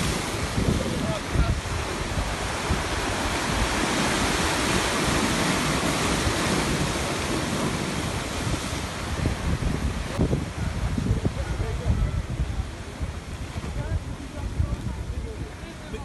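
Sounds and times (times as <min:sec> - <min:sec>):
surf washing in: 0:00.0 - 0:16.0
wind buffeting microphone: 0:00.0 - 0:16.0.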